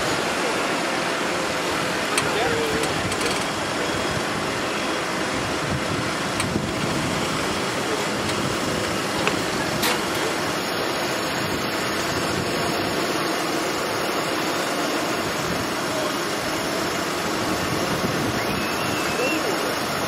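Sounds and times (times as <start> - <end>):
tractor engine under load: 0.0 - 20.0.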